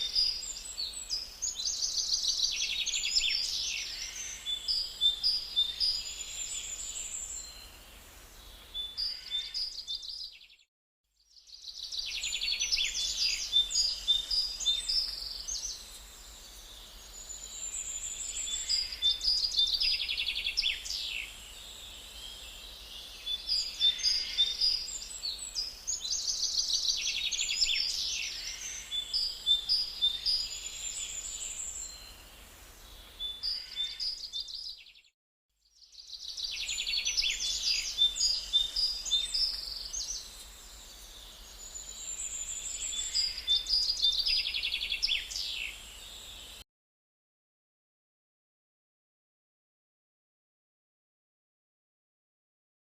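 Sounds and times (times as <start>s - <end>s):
songbirds chirping and trilling: 0.0s - 10.7s, 11.3s - 35.1s, 35.7s - 46.6s.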